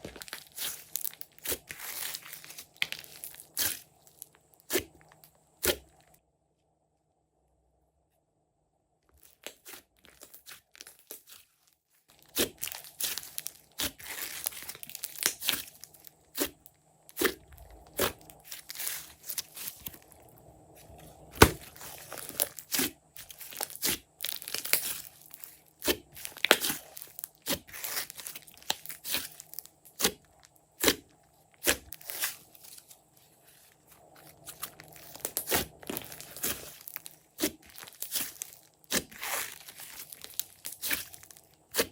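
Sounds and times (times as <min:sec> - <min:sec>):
slime squishing and crackling: 0:00.0 - 0:06.1, 0:09.2 - 0:41.9.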